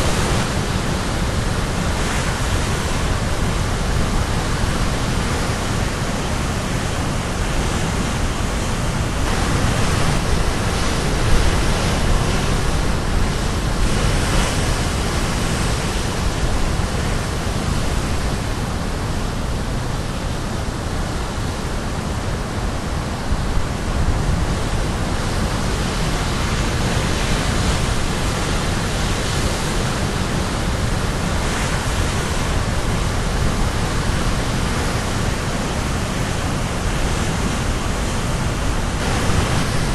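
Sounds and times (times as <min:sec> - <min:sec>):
waves crashing on shore: 0:00.0 - 0:39.9.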